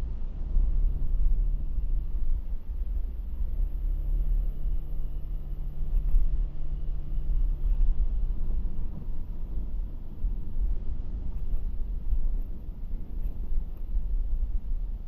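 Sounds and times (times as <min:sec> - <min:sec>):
engine hum: 0:00.0 - 0:15.0
vehicle road rumble: 0:00.0 - 0:15.0.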